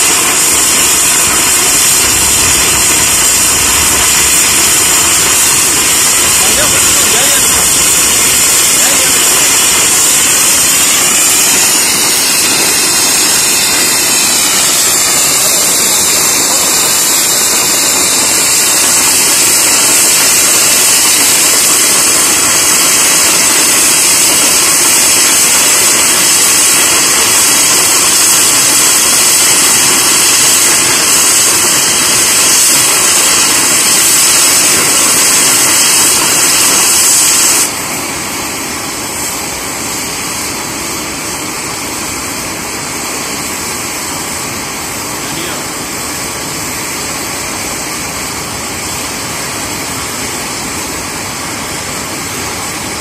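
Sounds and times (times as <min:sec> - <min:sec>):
helicopter turbine whine: 0:00.0 - 0:53.0.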